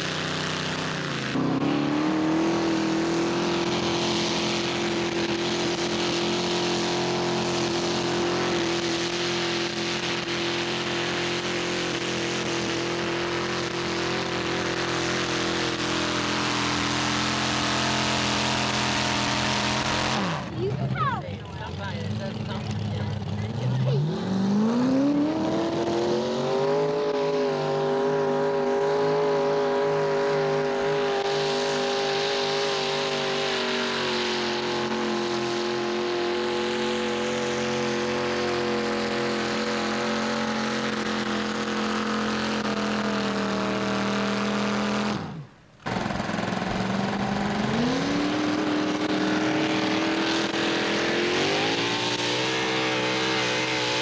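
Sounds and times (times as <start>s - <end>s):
tractor engine revving high: 0.0s - 54.0s.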